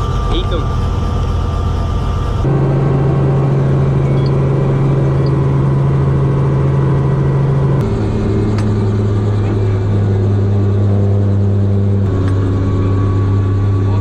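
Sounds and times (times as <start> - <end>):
helicopter hum in flight: 0.0 - 14.0.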